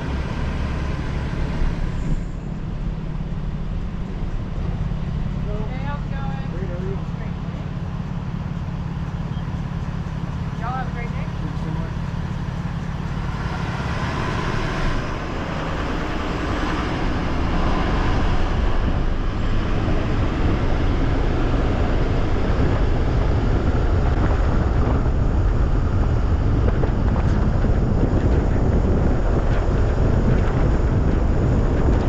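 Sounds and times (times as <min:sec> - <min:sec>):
truck road and wind noise: 0:00.0 - 0:32.0.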